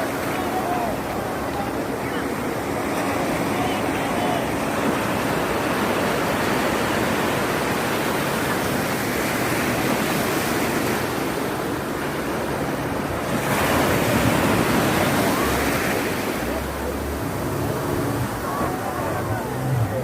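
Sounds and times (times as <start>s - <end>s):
sea surf rushing: 0.0s - 20.0s.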